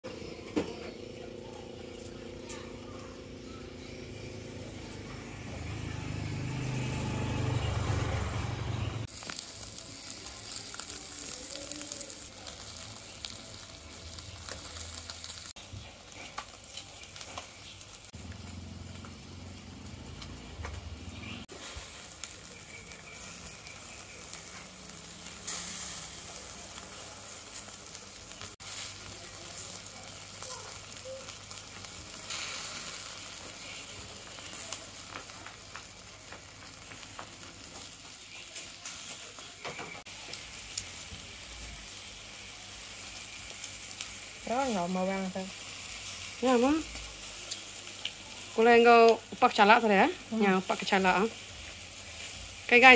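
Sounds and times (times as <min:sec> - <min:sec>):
food sizzling on charcoal grill: 0:00.0 - 0:52.9.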